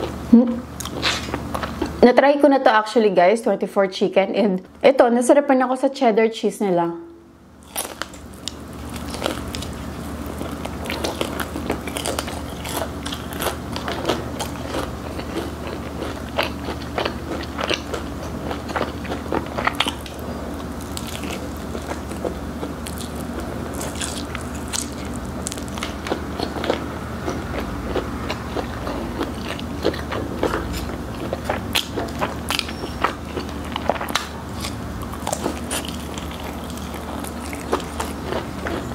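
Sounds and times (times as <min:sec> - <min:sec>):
fried chicken crunching: 0:07.6 - 0:38.9.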